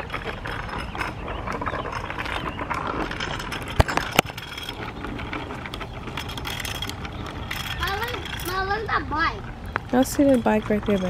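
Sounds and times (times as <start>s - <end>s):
bicycle rattling on concrete: 0.0s - 11.0s.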